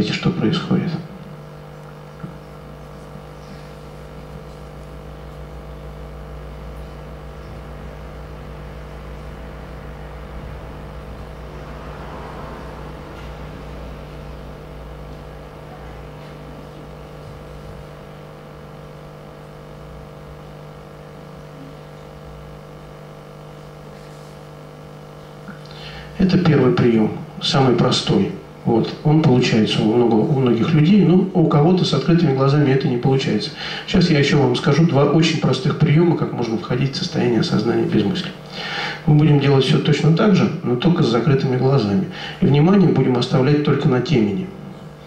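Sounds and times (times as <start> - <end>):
room hum: 0.0 - 45.0.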